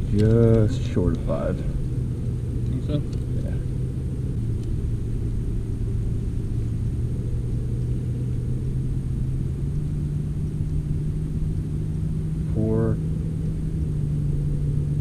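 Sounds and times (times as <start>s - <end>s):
low hum: 0.0s - 15.0s
low rumble: 0.0s - 15.0s.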